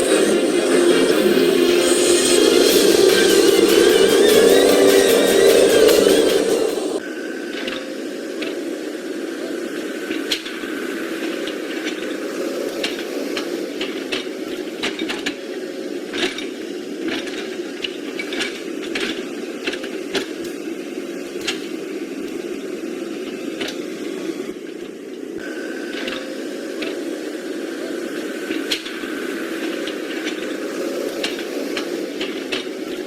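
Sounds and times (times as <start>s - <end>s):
faint high whine: 0.0s - 33.0s.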